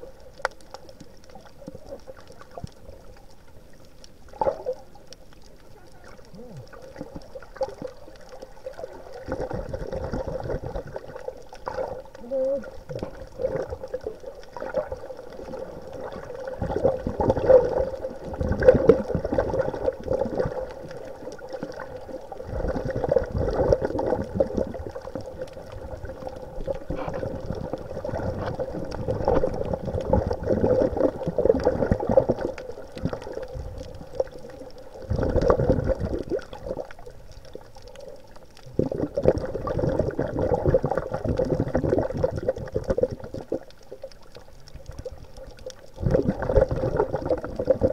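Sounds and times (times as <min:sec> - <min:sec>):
faint steady hum: 0:00.0 - 0:47.9
water rushing and bubbling: 0:00.0 - 0:47.9.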